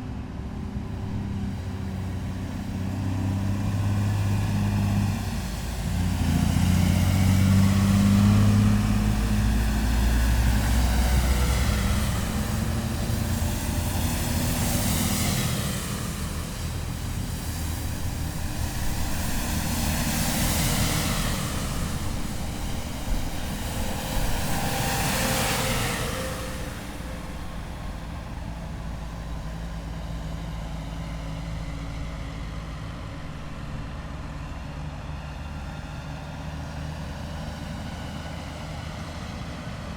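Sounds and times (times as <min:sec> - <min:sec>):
heavy vehicles driving past: 0:00.0 - 0:39.9.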